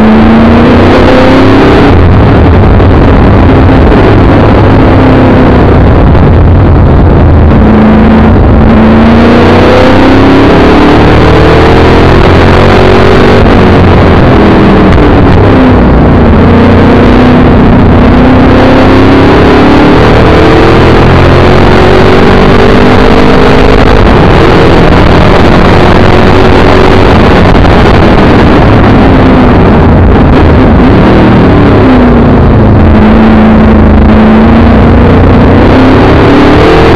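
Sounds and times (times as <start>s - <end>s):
car engine revving: 0.0s - 36.9s
wind and road noise: 0.0s - 36.9s.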